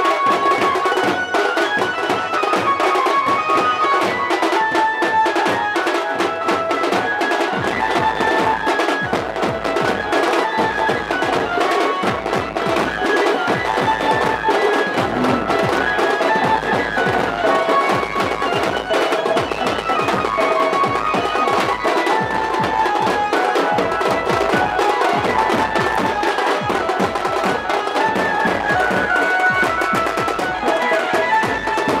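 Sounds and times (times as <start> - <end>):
fast drumming on big drums: 0.0 - 32.0
reedy wind instrument melody: 0.0 - 32.0.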